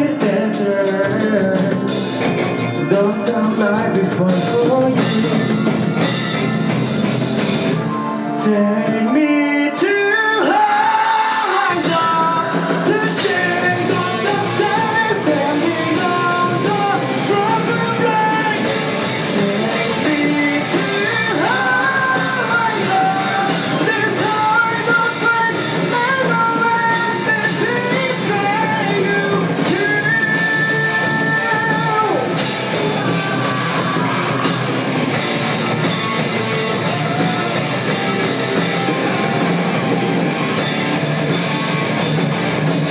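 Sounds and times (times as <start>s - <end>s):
drums: 0.0s - 42.9s
guitars: 0.0s - 42.9s
wavering melodic lead line: 0.0s - 42.9s.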